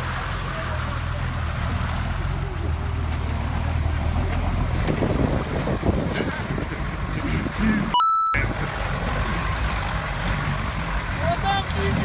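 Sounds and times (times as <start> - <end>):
engine low rumble: 0.0 - 12.0
water washing around vehicle: 0.0 - 12.0.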